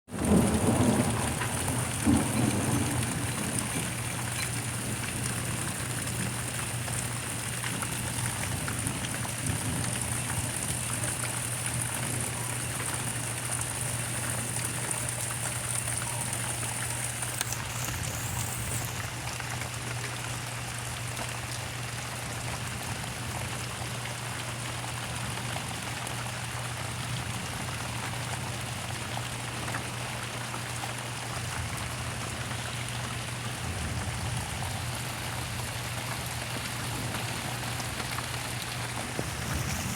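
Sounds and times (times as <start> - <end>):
steady rain hiss: 0.1 - 39.9.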